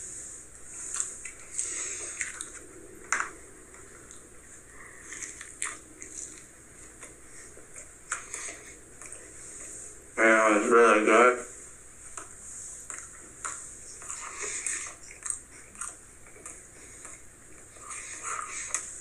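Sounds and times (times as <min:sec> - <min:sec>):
person chewing pizza: 0:00.6 - 0:10.0, 0:12.0 - 0:19.0.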